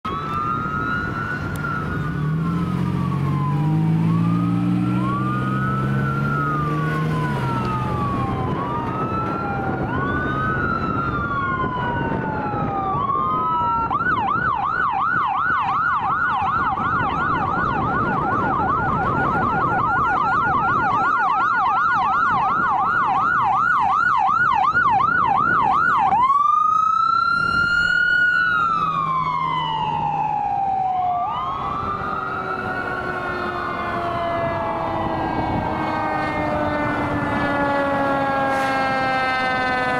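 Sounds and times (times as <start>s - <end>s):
ambulance siren wailing and yelping: 0.0s - 39.9s
second siren wailing: 0.0s - 39.9s
vehicle engine noise: 0.0s - 39.9s.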